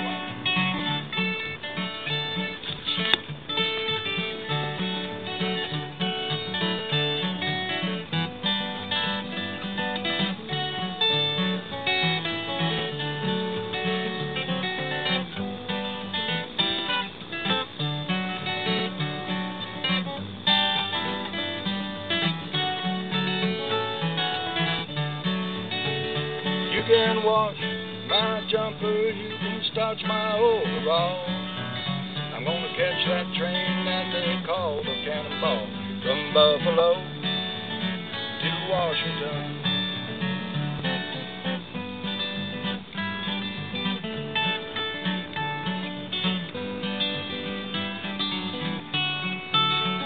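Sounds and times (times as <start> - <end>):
acoustic guitars playing: 0.0 - 50.0.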